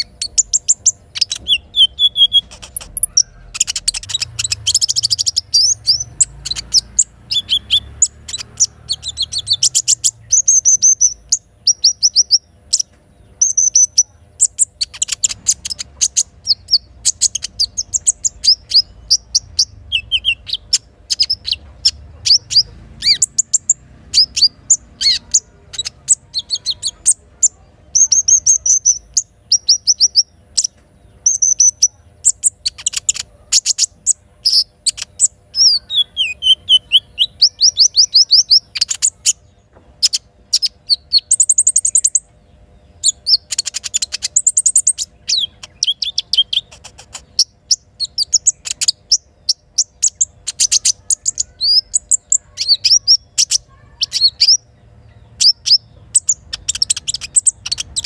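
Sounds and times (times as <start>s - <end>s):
songbird chirping and trilling: 0.0s - 58.0s.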